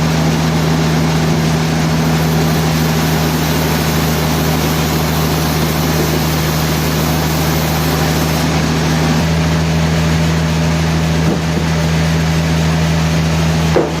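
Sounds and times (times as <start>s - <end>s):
sawmill machinery humming: 0.0s - 14.0s.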